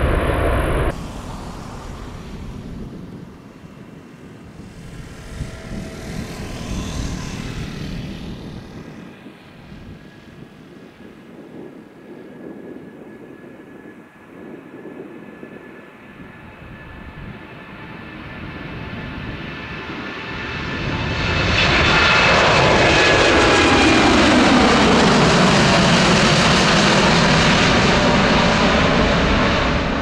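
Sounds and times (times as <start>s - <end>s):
jet engines rumbling with high whine: 0.0s - 30.0s.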